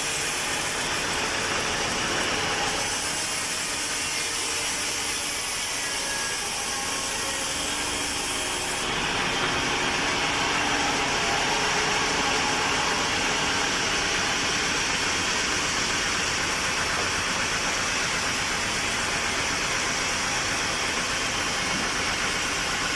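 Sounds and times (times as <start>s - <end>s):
sawmill machinery running: 0.0s - 22.9s.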